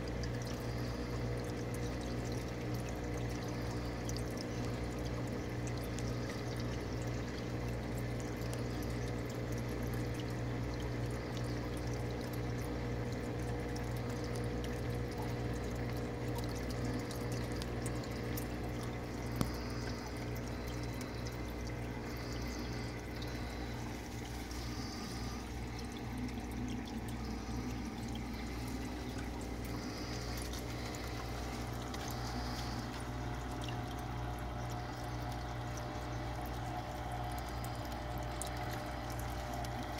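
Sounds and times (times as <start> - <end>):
water pouring and splashing: 0.0 - 39.9
low hum: 0.2 - 39.9.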